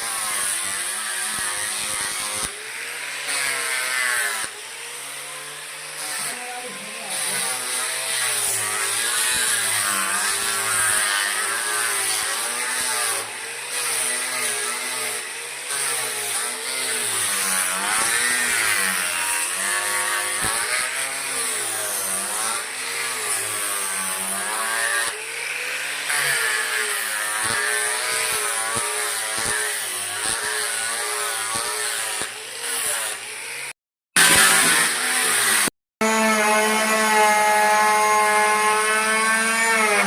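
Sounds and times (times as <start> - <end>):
power tool cutting wood: 0.0 - 40.0.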